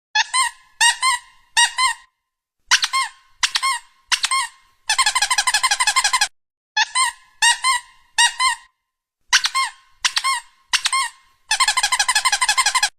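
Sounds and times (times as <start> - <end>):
squeaky toy squeaks: 0.2 - 2.1, 2.7 - 12.9.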